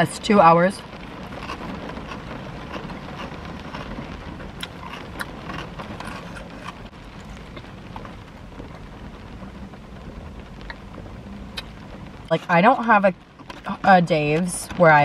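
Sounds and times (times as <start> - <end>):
rain hissing on car: 0.0 - 15.0
raindrops ticking on roof and glass: 0.0 - 15.0.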